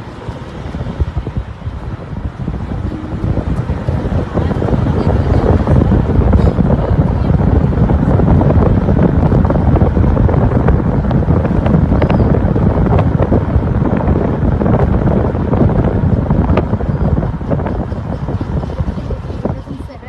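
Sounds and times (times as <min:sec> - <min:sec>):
vehicle road and engine noise: 0:00.0 - 0:20.0
wind buffeting microphone: 0:00.0 - 0:20.0.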